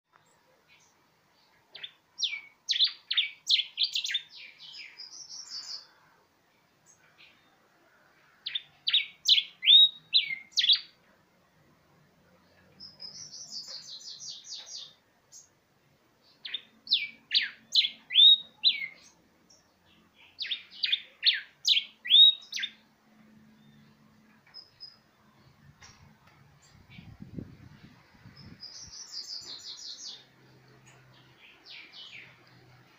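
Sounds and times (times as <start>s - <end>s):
songbird singing sharp phrases: 0.1s - 32.9s.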